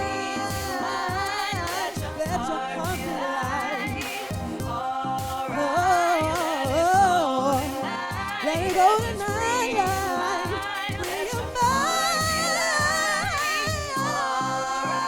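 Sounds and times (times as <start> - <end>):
music with steady beat: 0.0 - 15.0
woman singing vocal runs: 0.0 - 15.0.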